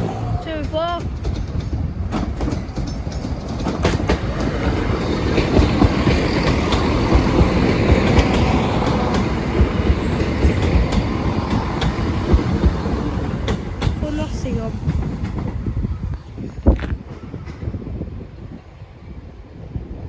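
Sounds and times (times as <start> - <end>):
wheels clicking over rail joints: 0.0 - 18.0
train wheels rumbling on rails: 0.0 - 20.0.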